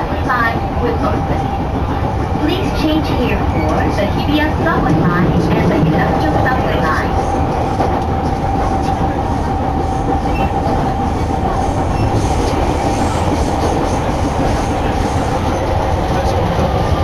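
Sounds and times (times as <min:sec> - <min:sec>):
constant whine: 0:00.0 - 0:17.0
train rumbling on rails: 0:00.0 - 0:17.0
train wheels clicking: 0:00.0 - 0:17.0.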